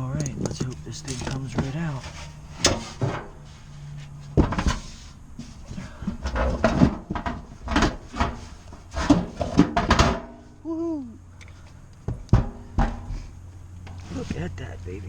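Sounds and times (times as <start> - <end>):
metal clunks knocks and rattles: 0.0 - 10.6, 11.4 - 15.0.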